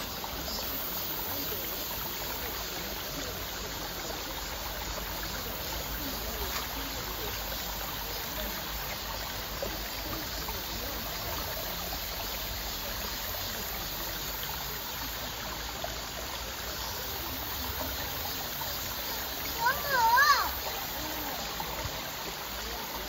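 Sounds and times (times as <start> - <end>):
stream flowing over stones: 0.0 - 23.0.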